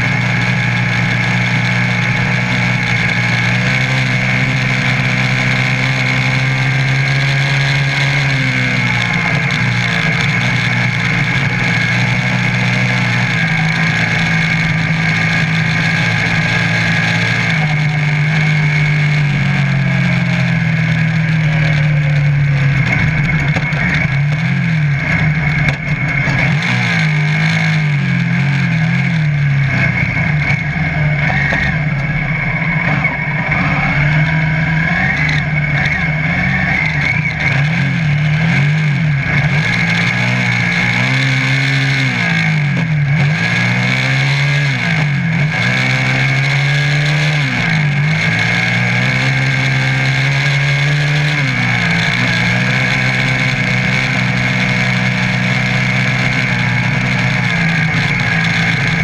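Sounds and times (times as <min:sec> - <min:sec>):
off-road buggy engine revving: 0:00.0 - 0:59.0
steady high whine: 0:00.0 - 0:59.0.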